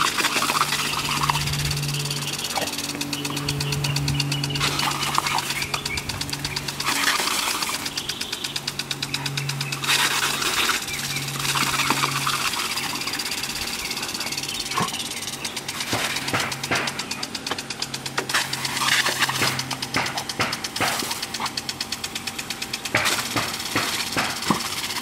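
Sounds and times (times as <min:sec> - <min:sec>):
rotary sprinkler ticking: 0:00.0 - 0:25.0
steady low hum: 0:00.0 - 0:25.0
water spray hissing: 0:00.0 - 0:25.0.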